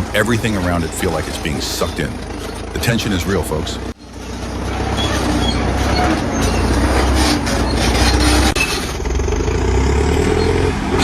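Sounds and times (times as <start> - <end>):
bulldozer engine straining: 0.0 - 11.0
steel tracks grinding and squealing: 0.0 - 11.0.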